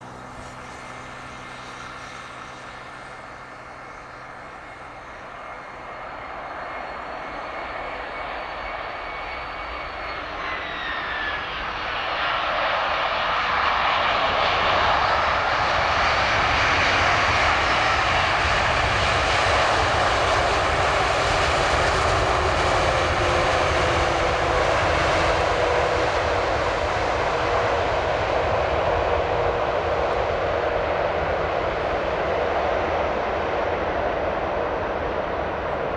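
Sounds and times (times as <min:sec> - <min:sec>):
jet engine roar: 0:00.0 - 0:35.9
jet engines whining: 0:00.0 - 0:35.9.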